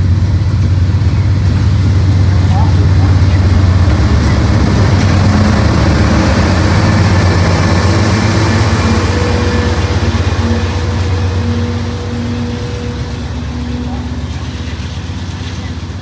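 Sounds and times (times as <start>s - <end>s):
diesel locomotive engine throbbing: 0.0s - 16.0s.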